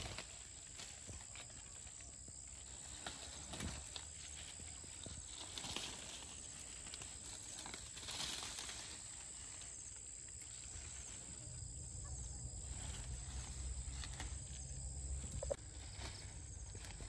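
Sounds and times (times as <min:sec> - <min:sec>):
leaves rustling: 0:00.0 - 0:17.0.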